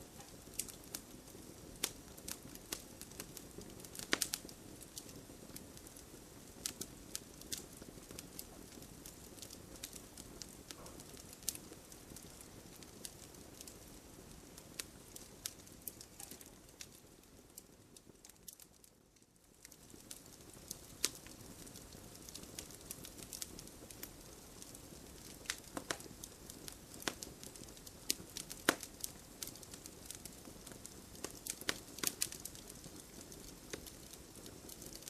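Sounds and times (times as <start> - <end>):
campfire crackling and popping: 0.0 - 35.0
low rush of flames: 0.0 - 35.0.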